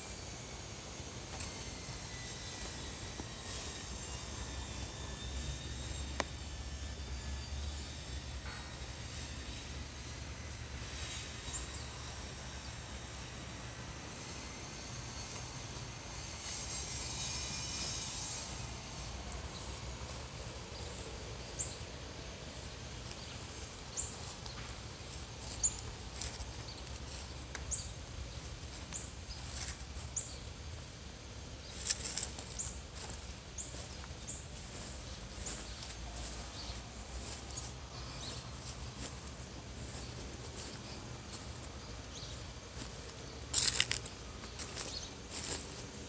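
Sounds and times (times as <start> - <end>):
faint high buzzing: 0.0 - 46.0
steady low background noise: 0.0 - 46.0.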